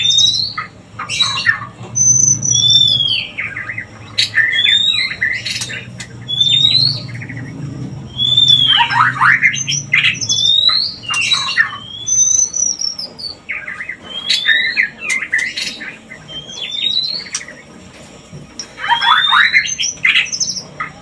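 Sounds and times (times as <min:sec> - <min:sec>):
birds whistling and chattering: 0:00.0 - 0:21.0.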